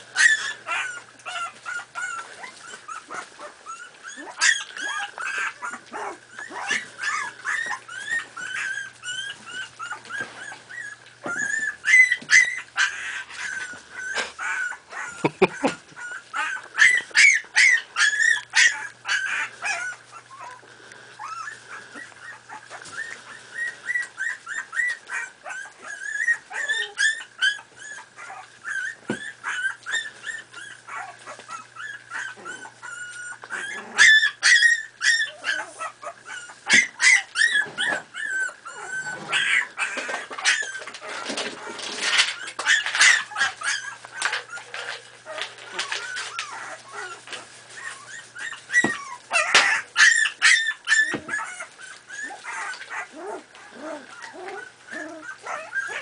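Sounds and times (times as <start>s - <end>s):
puppies whimpering and yipping: 0.0s - 56.0s.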